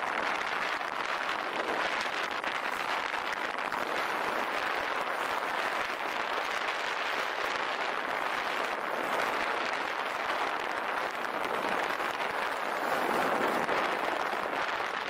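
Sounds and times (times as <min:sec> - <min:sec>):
wind rushing: 0:00.0 - 0:15.0.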